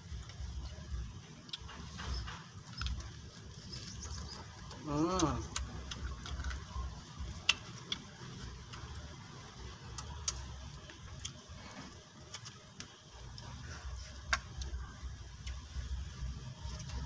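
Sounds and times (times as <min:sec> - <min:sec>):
low steady rumble: 0:00.0 - 0:17.0
chewing and mouth noises: 0:00.1 - 0:17.0.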